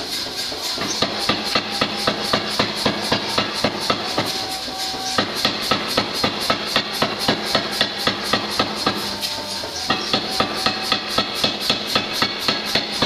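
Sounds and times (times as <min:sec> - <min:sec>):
hammer blows on hot steel: 0:00.0 - 0:13.0.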